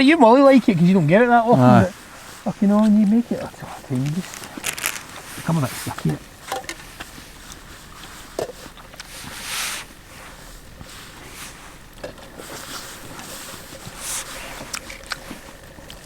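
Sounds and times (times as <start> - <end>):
rustling scrape: 1.4 - 16.0.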